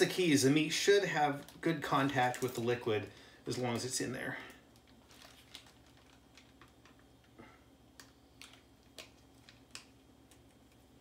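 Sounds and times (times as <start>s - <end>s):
plastic bag clicks and crinkles: 1.2s - 2.9s, 3.5s - 10.9s.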